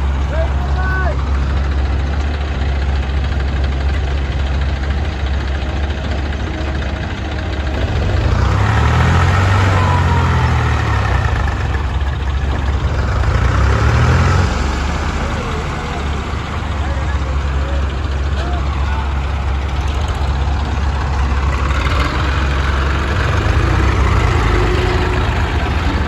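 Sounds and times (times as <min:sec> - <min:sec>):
diesel engine revving: 0:00.0 - 0:26.0.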